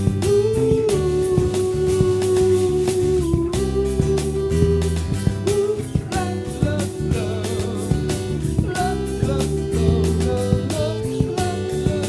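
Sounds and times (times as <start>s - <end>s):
bass guitar: 0.0s - 12.0s
hand percussion: 0.0s - 12.0s
man singing: 0.0s - 12.0s
strummed acoustic guitar: 0.0s - 12.0s.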